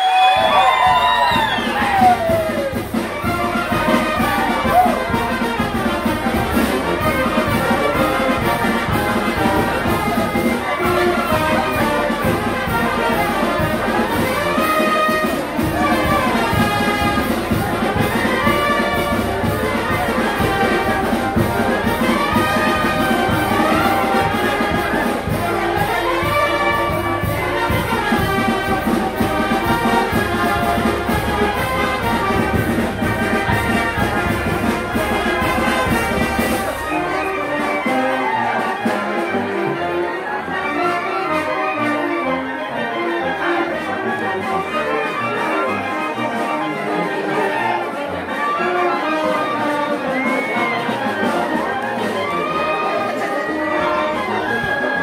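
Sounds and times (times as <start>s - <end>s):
brass band dance tune: 0.0s - 55.0s.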